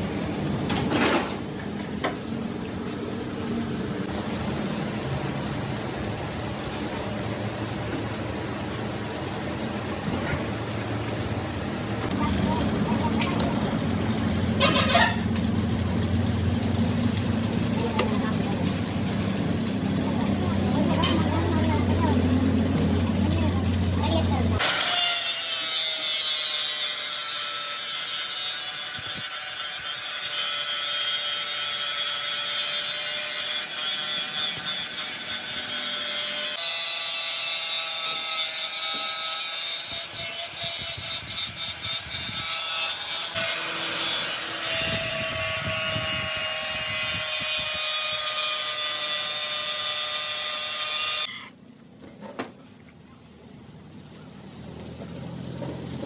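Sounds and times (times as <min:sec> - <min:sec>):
power tool grinding metal: 0:02.9 - 0:51.6.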